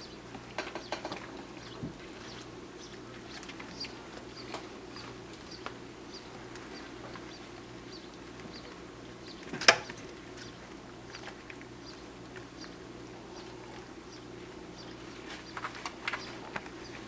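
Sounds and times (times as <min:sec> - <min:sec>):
steady low hum: 0:00.0 - 0:17.0
puppies clicking about: 0:00.3 - 0:17.0.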